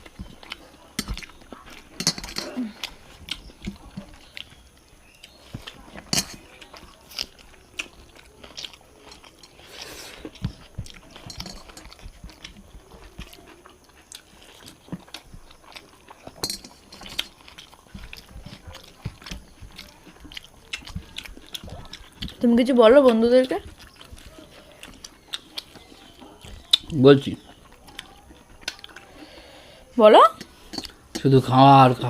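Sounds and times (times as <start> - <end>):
people chewing and crunching: 0.0 - 32.0.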